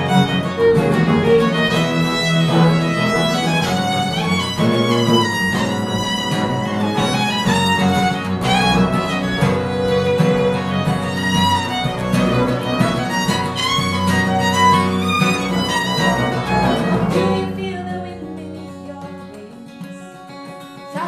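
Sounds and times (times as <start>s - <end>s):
upright bass: 0.0s - 18.3s
fiddle playing melody: 0.0s - 20.9s
acoustic guitar accompaniment: 0.0s - 21.0s.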